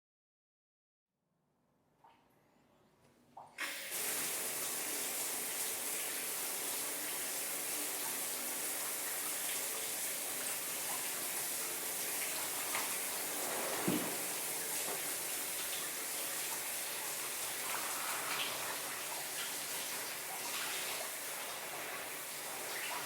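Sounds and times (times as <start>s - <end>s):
shower water spraying: 3.6s - 23.0s.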